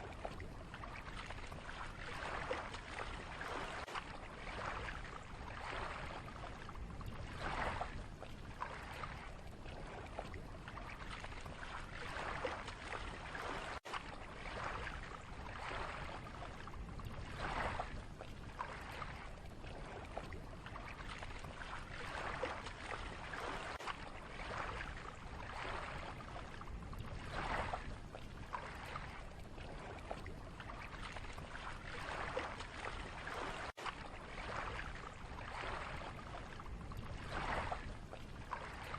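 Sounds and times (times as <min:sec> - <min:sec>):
lake water lapping: 0:00.0 - 0:38.9.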